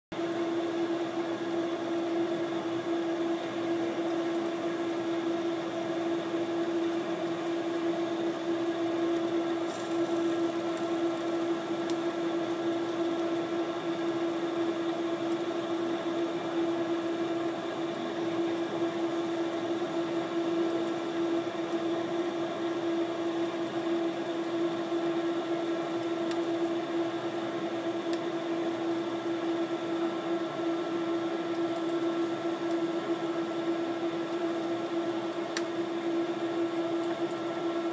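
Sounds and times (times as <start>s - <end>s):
machine humming with low tone: 0.2s - 37.9s.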